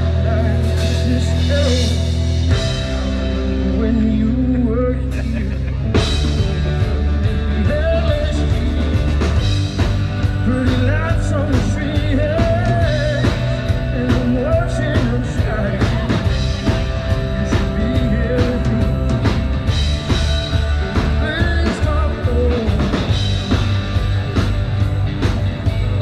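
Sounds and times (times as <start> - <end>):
singer: 0.0 - 23.7
drum kit: 0.0 - 26.0
second guitar: 0.0 - 26.0.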